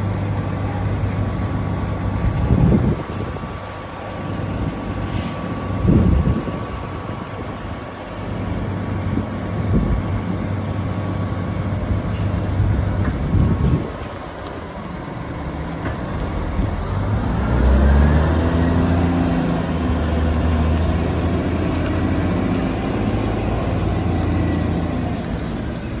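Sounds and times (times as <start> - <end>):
diesel truck engine pulling away: 0.0 - 26.0.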